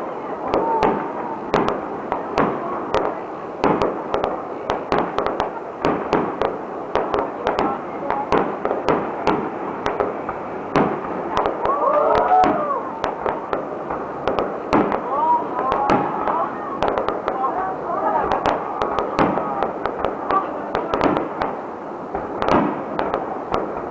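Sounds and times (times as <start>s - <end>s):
continuous noisy background: 0.0s - 23.9s.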